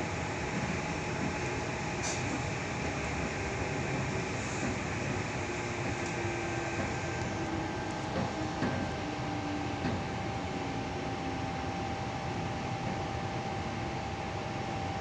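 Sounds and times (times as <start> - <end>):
train running rumble and hiss: 0.0 - 15.0.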